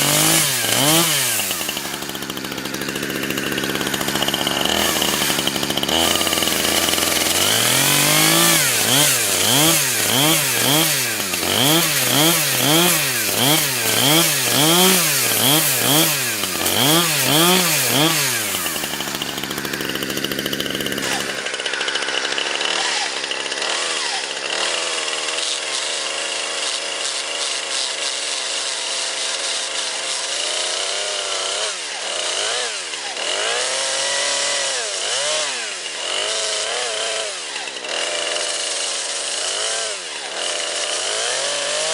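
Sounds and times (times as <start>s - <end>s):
chainsaw revving: 0.0s - 41.9s.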